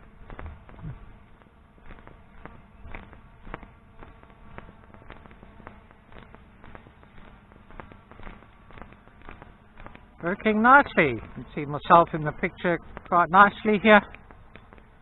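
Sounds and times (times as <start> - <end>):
footsteps on grass: 0.0 - 15.0
quadcopter motors buzzing: 0.0 - 15.0.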